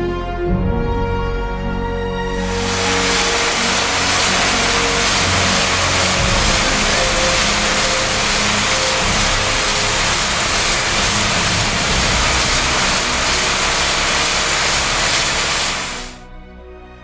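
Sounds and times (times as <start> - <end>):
high-pressure water jets hissing: 2.3 - 16.2
low drone: 2.3 - 16.3.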